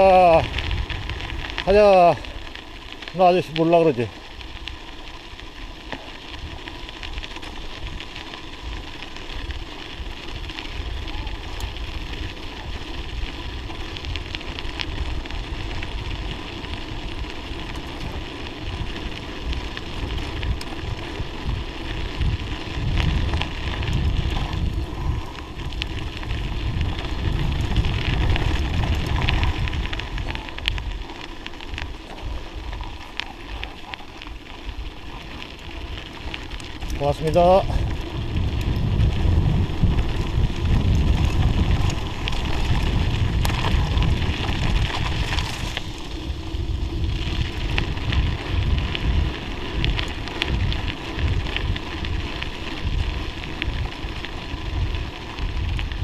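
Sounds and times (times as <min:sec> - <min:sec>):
bicycle tyres crackling on snow: 0:00.0 - 0:56.0
wind rumbling on microphone: 0:00.0 - 0:56.0.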